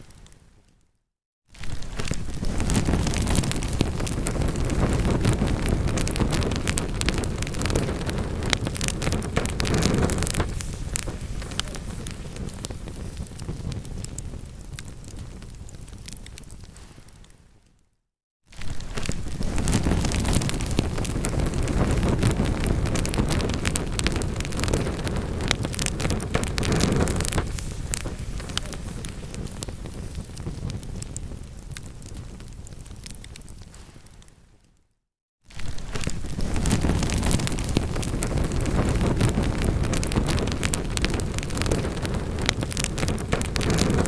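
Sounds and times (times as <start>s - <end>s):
logs crackling and popping: 0.0s - 0.8s, 1.6s - 17.8s, 18.5s - 34.8s, 35.5s - 44.0s
low roar of flames: 1.6s - 17.4s, 18.6s - 34.2s, 35.5s - 44.0s.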